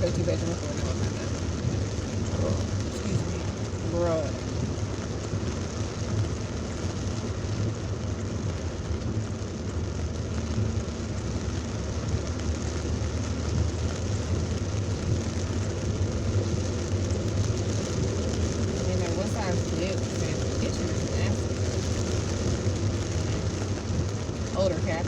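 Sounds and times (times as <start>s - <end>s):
car engine and tyres rumbling: 0.0s - 25.0s
rain hissing: 0.0s - 25.0s.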